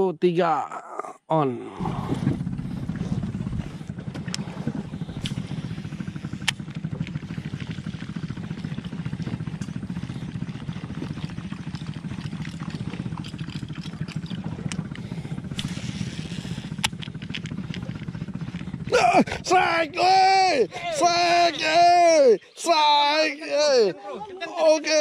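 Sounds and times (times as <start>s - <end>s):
boat engine running: 1.4s - 25.0s.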